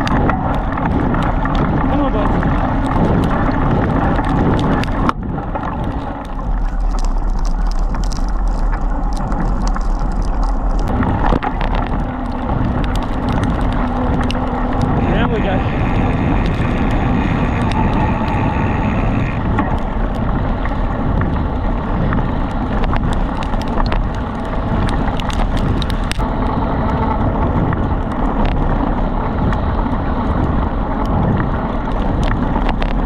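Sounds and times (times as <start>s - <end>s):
high steady whine: 0.0s - 33.0s
sharp clicks and rattles: 0.0s - 33.0s
tyre and wind noise: 0.0s - 33.0s.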